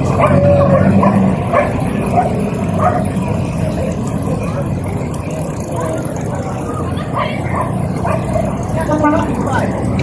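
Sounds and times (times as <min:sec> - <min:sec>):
vehicle engines rumbling: 0:00.0 - 0:10.0.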